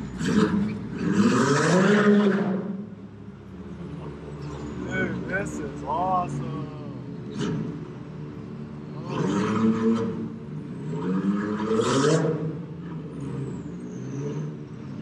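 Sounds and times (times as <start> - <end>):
engine revving: 0.0 - 3.0, 3.6 - 15.0.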